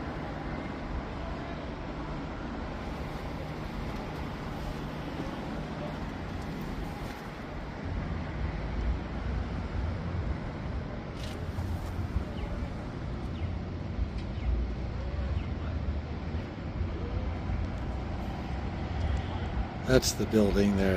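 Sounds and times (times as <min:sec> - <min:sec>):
road traffic rumble: 0:00.0 - 0:20.9.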